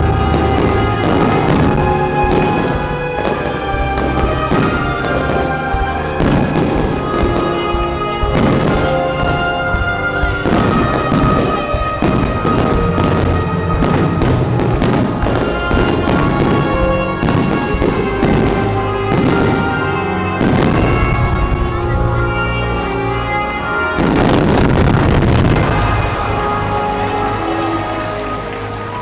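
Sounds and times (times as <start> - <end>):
fireworks bursting: 0.0 - 29.0
music with long held notes: 0.0 - 29.0.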